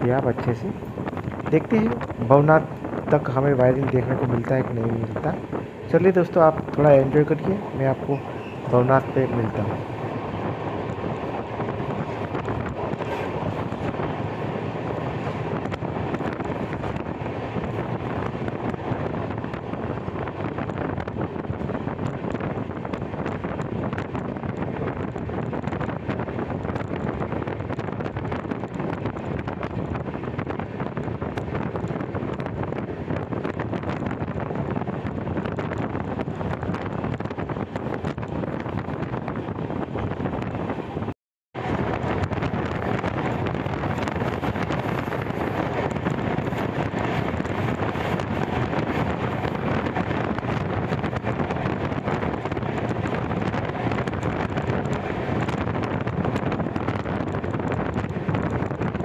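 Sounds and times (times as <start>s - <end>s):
passenger train running: 0.0s - 59.0s
wind buffeting microphone: 0.0s - 59.0s.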